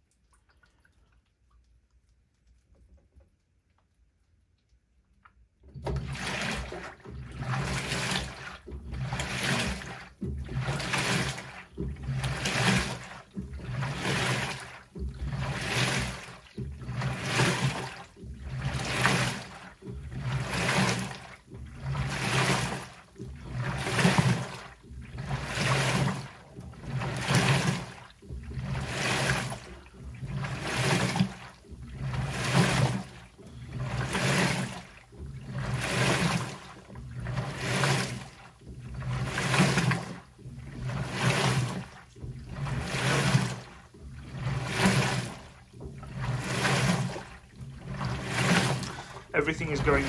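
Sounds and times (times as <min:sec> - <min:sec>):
washer sloshing water: 0:00.0 - 0:01.6, 0:05.6 - 0:50.0
washer motor hum: 0:05.2 - 0:50.0.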